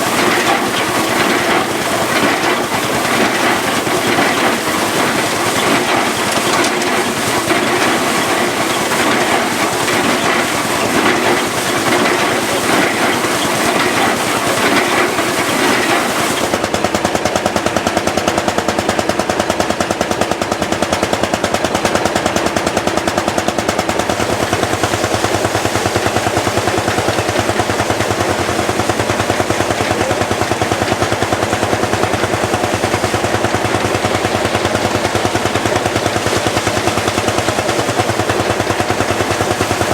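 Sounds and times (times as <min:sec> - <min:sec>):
threshing machine clattering: 0:00.0 - 0:39.9
two-stroke engine exhaust beats: 0:00.0 - 0:39.9.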